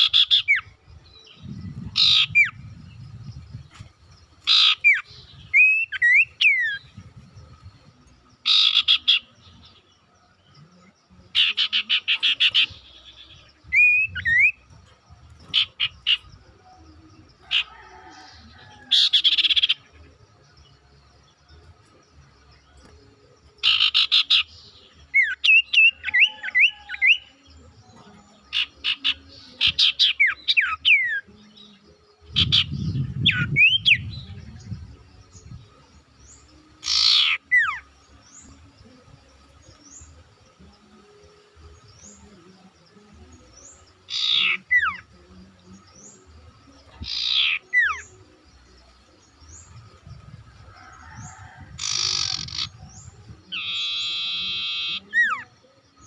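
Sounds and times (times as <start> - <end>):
songbird calling: 0.0 - 56.0.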